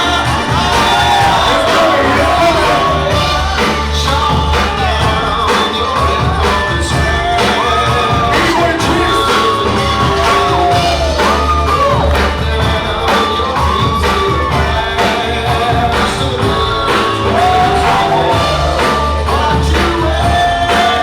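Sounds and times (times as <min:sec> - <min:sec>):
loud music with heavy bass: 0:00.0 - 0:21.0
person singing: 0:00.0 - 0:21.0.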